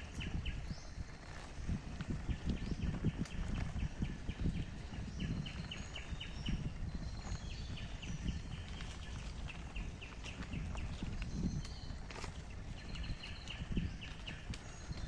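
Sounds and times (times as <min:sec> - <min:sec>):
bicycle rolling on dirt path: 0:00.0 - 0:15.0.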